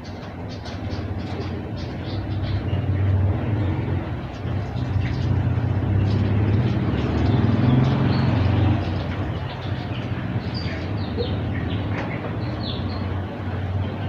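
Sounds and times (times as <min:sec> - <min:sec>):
birds chirping: 0:00.0 - 0:14.0
vehicle engine running: 0:00.0 - 0:14.0.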